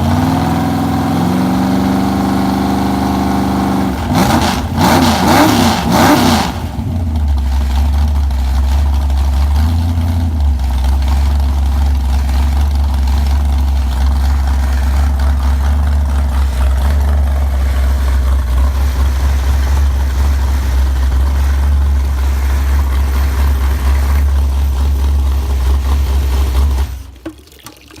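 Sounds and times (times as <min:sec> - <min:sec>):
car engine revving and idling: 0:00.0 - 0:27.2.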